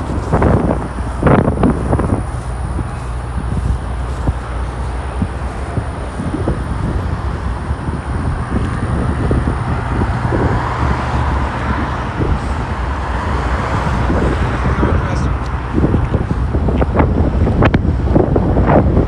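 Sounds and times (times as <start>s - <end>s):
road traffic hiss: 0.0s - 19.0s
wind buffeting microphone: 0.0s - 19.0s.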